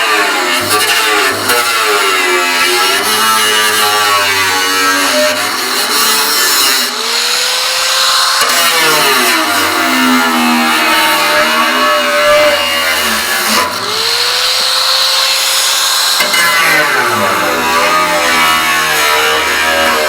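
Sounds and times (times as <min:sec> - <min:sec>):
power drill whining: 0:00.0 - 0:20.0.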